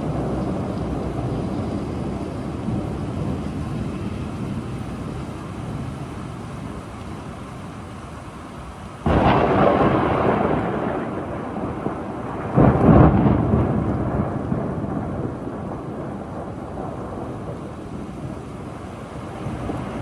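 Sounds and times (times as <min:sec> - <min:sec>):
thunder rumbling: 0:00.0 - 0:07.3, 0:09.0 - 0:20.0
steady rain: 0:00.0 - 0:20.0.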